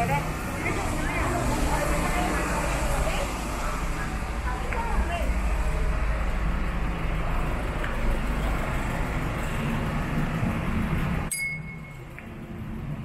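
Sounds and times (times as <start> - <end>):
low rumble of passing vehicles: 0.0 - 13.0.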